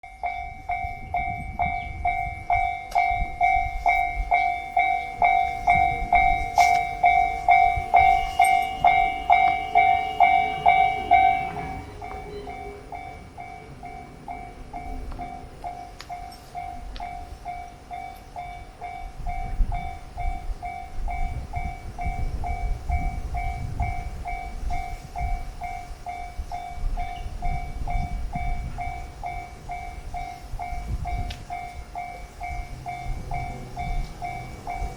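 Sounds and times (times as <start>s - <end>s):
level crossing bell ringing: 0.0s - 34.9s
train low rumble: 0.0s - 34.9s.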